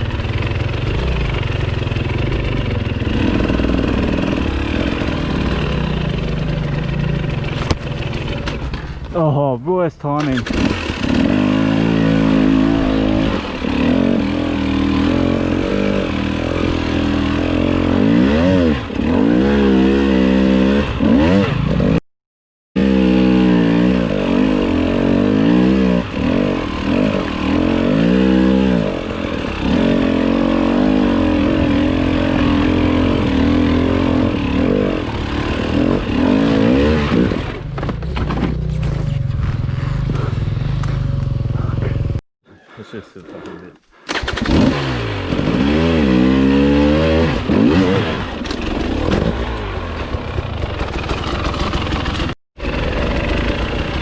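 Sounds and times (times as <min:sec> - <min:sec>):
dirt bike engine revving: 0:00.0 - 0:09.0, 0:10.1 - 0:22.0, 0:22.8 - 0:42.2, 0:44.0 - 0:54.0.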